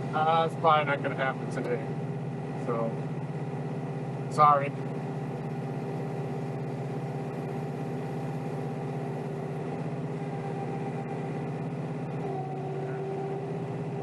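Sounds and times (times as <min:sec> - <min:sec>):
tractor diesel engine humming: 0:00.0 - 0:14.0.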